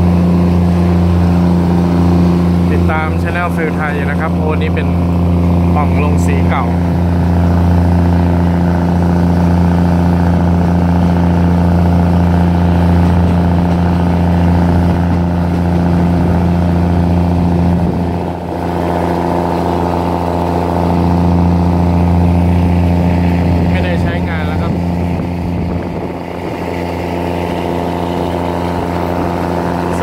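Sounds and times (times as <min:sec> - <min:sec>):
diesel train engine drone: 0:00.0 - 0:30.0.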